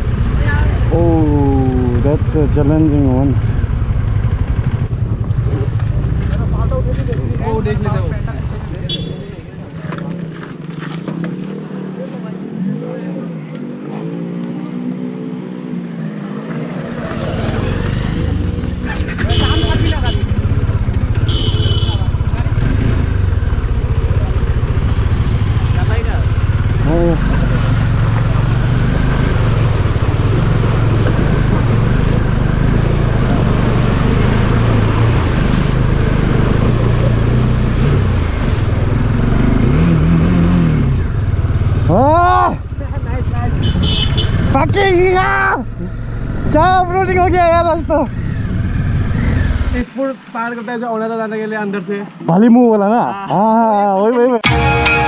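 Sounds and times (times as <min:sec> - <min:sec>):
motorcycle engine revving: 0:00.0 - 0:51.7.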